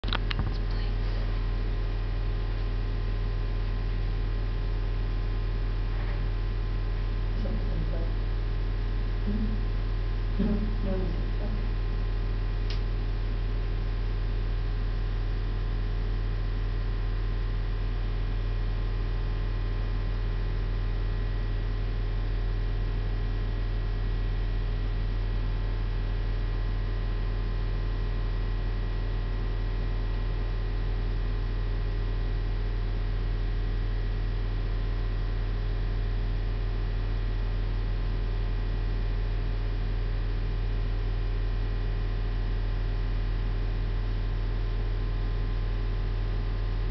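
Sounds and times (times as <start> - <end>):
low electrical mains hum: 0.0 - 46.9.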